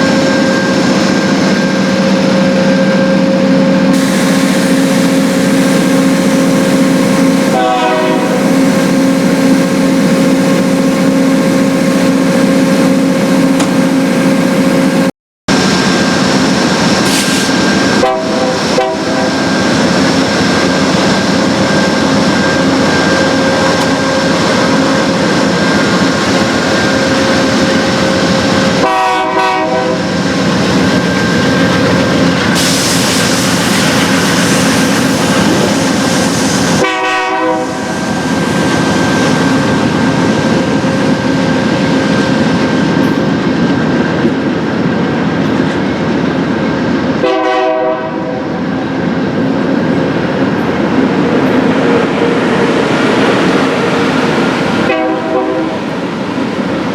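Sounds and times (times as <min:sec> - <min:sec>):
train rolling rumble: 0:00.0 - 0:56.9.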